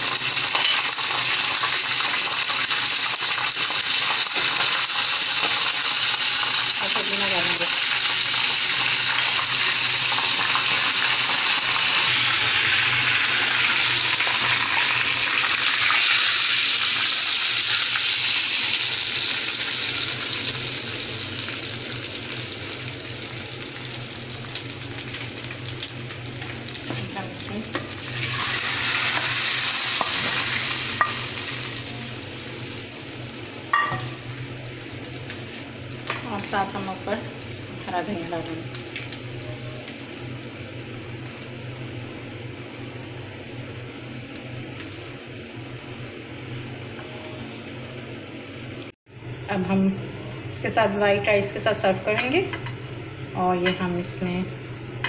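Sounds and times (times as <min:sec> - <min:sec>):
hot oil sizzling in a pan: 0:00.0 - 0:49.0.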